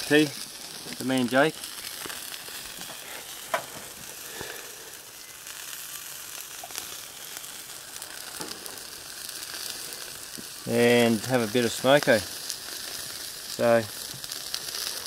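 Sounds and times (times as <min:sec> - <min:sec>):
sausages sizzling on a grill: 0:00.0 - 0:15.0
wood fire crackling: 0:00.0 - 0:15.0.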